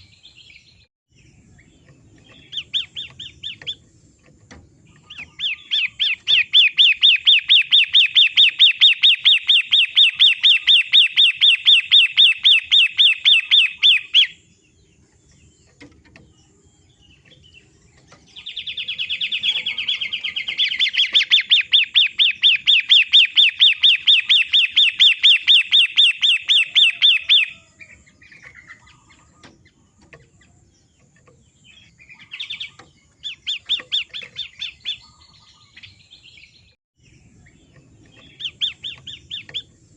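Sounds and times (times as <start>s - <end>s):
songbird trilling: 0.0s - 4.0s, 4.8s - 39.9s.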